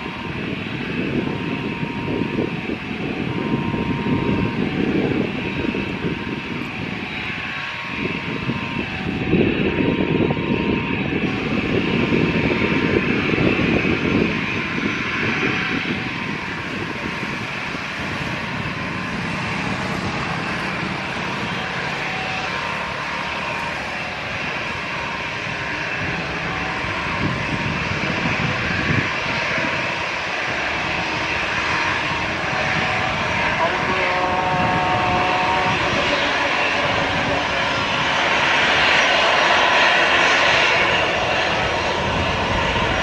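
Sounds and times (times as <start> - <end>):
airliner engines running: 0.0 - 43.0.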